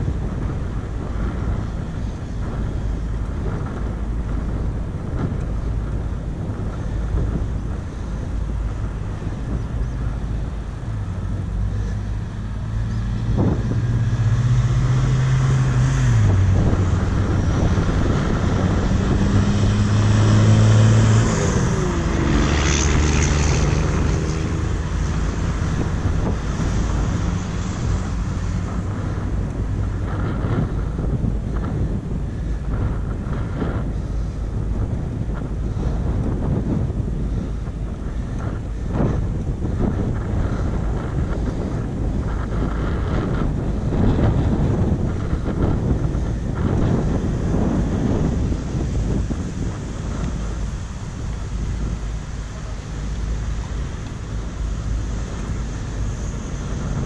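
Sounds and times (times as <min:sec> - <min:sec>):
passing motor engine drone: 0:00.0 - 0:57.0
wind rush on microphone: 0:00.0 - 0:57.0.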